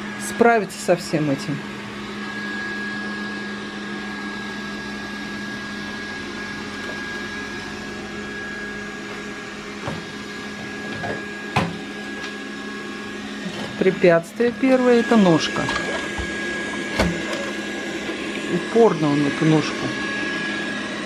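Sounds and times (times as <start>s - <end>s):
robot vacuum humming and whining: 0.0s - 21.0s.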